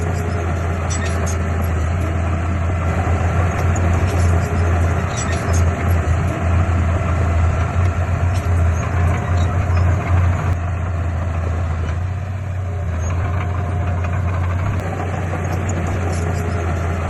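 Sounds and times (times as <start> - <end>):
heavy diesel engine rumbling: 0.0 - 17.0.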